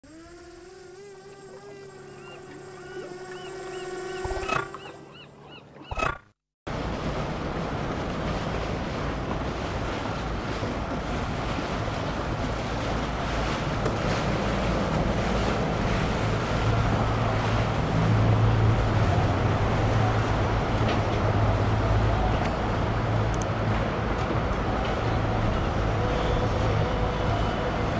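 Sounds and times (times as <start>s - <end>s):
rush of boat wake: 0.0s - 5.6s, 6.7s - 27.9s
outboard engines droning: 0.0s - 27.9s.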